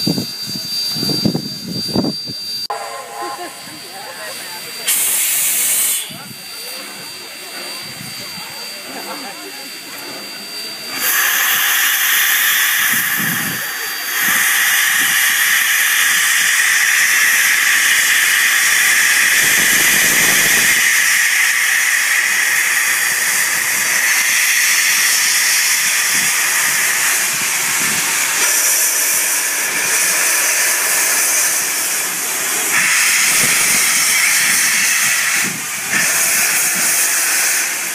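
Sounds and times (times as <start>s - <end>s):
steam locomotive venting steam: 0.0s - 37.9s.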